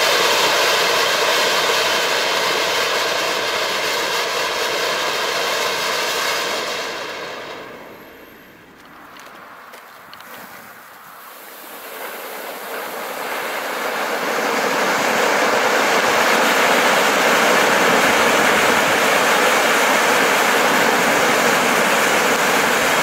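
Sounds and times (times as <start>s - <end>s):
fountain fireworks hissing: 0.0s - 23.0s.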